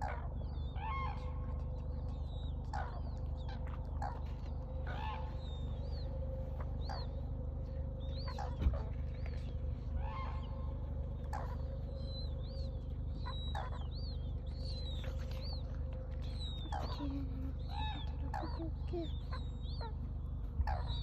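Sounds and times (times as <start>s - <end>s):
cranes calling: 0.0s - 21.0s
steady low hum: 0.0s - 21.0s.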